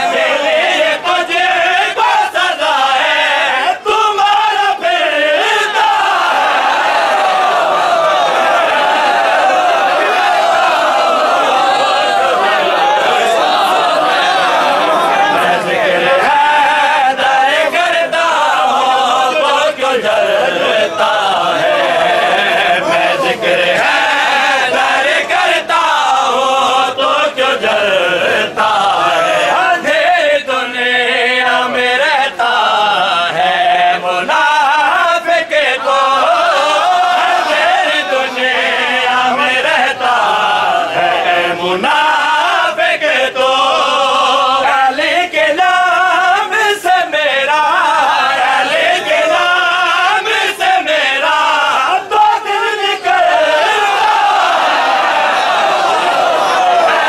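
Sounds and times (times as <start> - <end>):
crowd of men chanting: 0.0 - 57.0.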